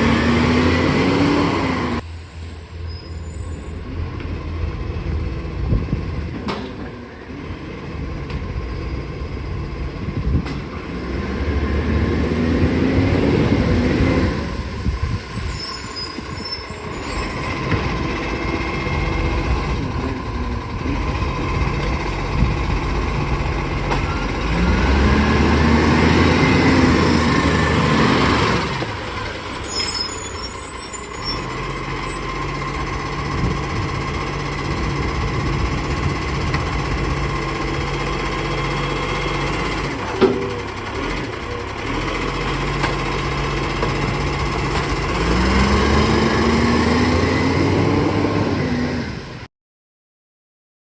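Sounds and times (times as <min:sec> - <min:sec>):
diesel truck engine revving: 0:00.0 - 0:49.5.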